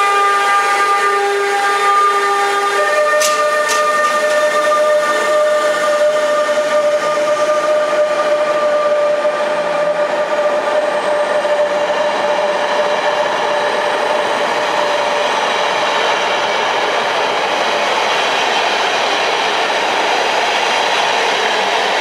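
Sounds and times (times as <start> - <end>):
locomotive whine: 0.0 - 22.0
train coaches rolling past: 0.0 - 22.0.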